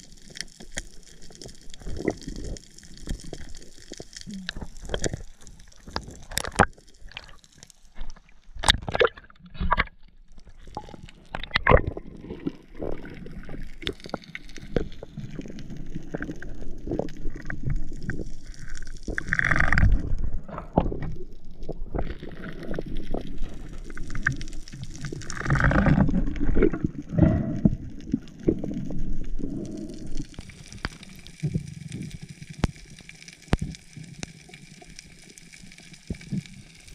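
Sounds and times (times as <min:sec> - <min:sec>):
sharp clicks and knocks underwater: 0:00.0 - 0:36.9
water rushing and gurgling: 0:00.0 - 0:36.9.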